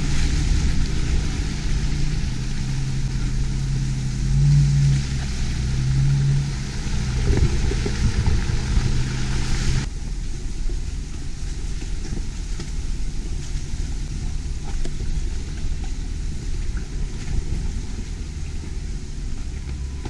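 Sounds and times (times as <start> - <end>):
engine hum and hiss: 0.0 - 20.0
off-road vehicle engine rumbling: 0.0 - 20.0.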